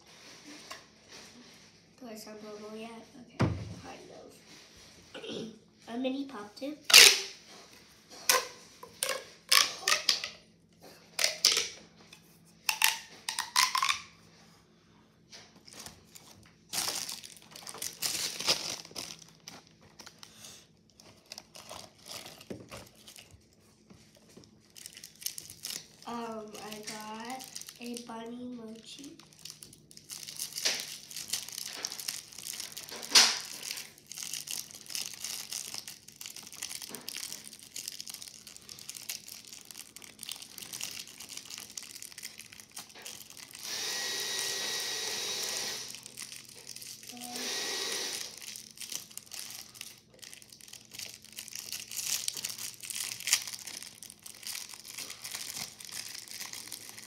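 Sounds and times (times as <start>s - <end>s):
plastic wrapper crinkling: 6.9s - 14.2s, 15.3s - 43.7s, 45.8s - 47.4s, 48.0s - 57.0s.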